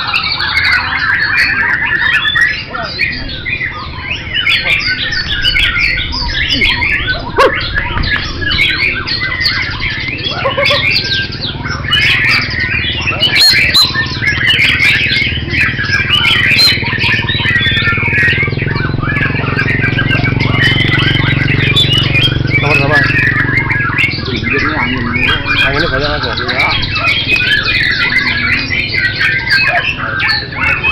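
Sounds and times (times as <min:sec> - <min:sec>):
songbirds chirping and trilling: 0:00.0 - 0:30.9.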